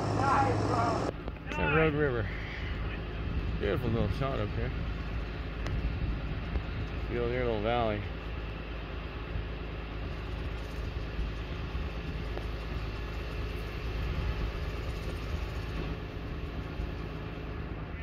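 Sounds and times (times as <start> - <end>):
heavy engine idling: 0.0 - 18.0.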